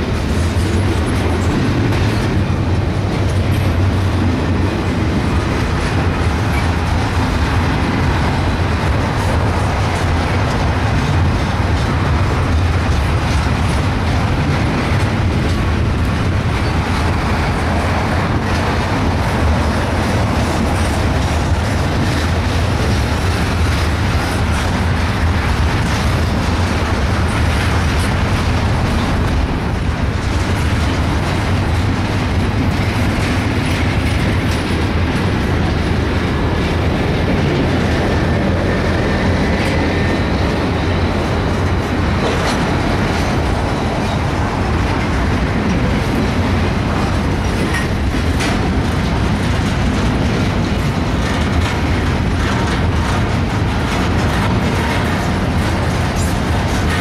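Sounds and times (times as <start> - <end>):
freight train rumbling: 0.0 - 57.0
wheels clicking over rail joints: 0.0 - 57.0.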